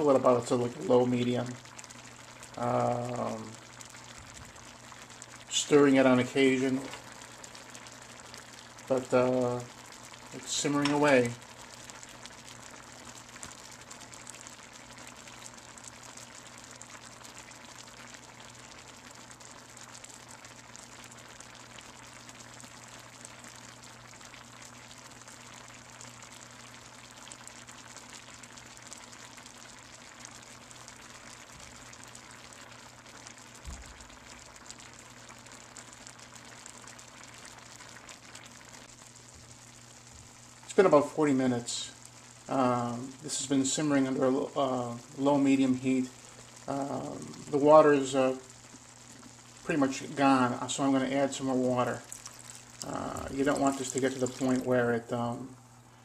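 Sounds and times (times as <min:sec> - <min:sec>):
stew bubbling: 0:00.0 - 0:55.6.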